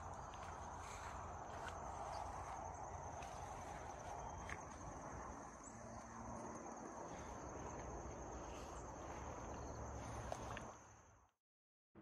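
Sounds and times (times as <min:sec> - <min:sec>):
crickets trilling: 0:00.0 - 0:11.3.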